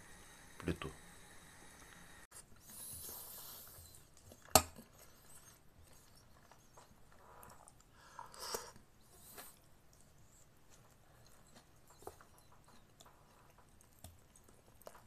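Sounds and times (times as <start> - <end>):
soft sipping and chewing: 2.3 - 15.0.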